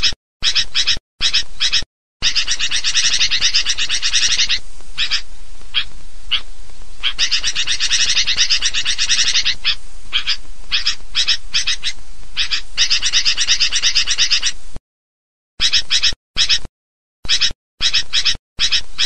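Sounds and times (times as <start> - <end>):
bird calling and chattering: 0.0 - 14.6, 15.6 - 19.0.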